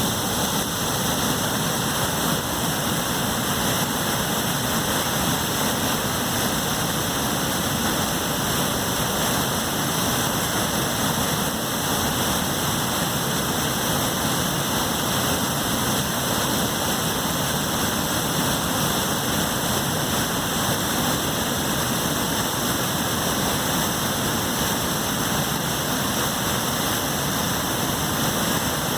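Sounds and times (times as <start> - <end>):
river rushing over a dam: 0.0 - 28.9.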